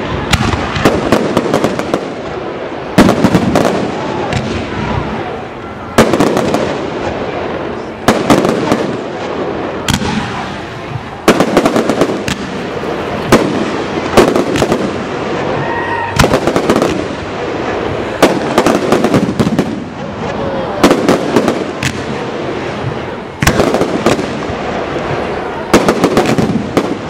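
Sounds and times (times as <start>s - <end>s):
fireworks bursting with bangs: 0.0s - 27.0s.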